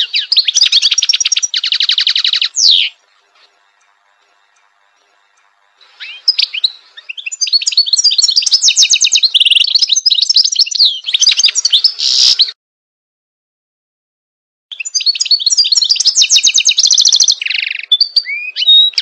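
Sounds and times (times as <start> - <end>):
goldfinch twittering song: 0.0 - 12.5, 14.8 - 19.0.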